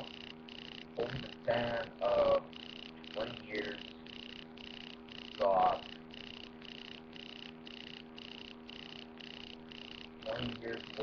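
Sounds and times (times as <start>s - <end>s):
pulsing noise: 0.0s - 11.0s
steady electrical hum: 0.0s - 11.0s.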